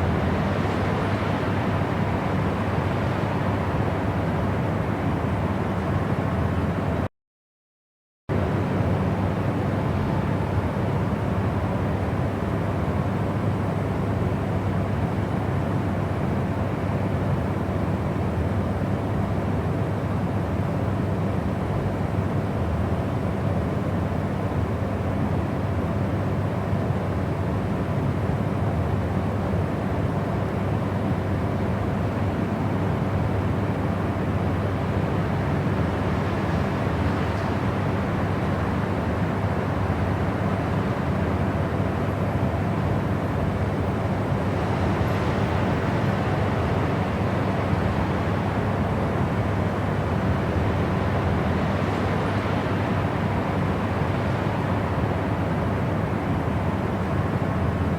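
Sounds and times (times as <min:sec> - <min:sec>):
white noise: 0:00.0 - 0:07.0, 0:08.4 - 0:57.9.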